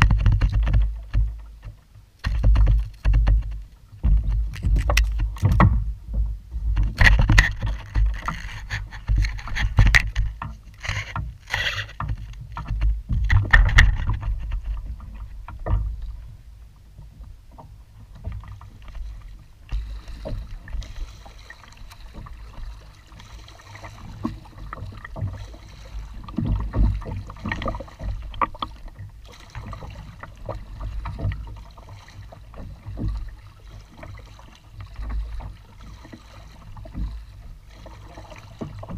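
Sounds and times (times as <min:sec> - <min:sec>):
kayak paddle splashing: 0:00.0 - 0:38.9.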